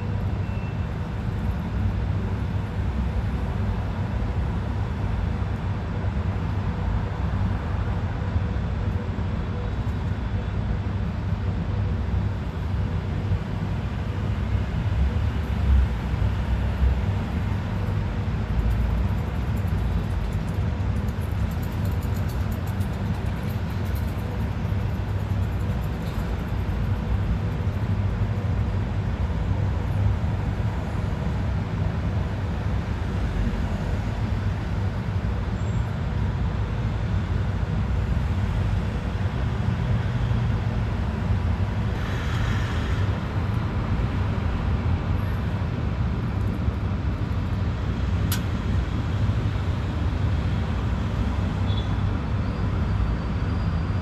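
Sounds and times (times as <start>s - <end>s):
low rumbling background noise: 0.0s - 54.0s.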